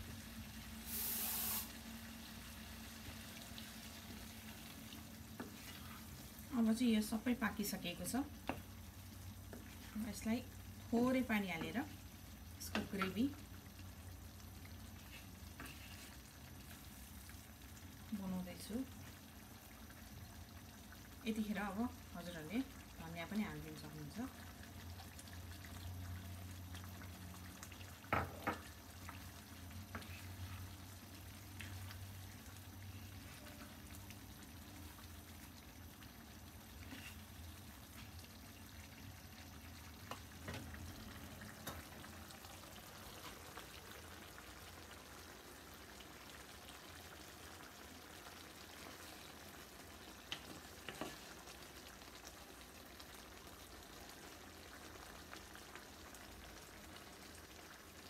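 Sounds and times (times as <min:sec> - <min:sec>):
curry simmering and bubbling: 0:01.7 - 0:58.0.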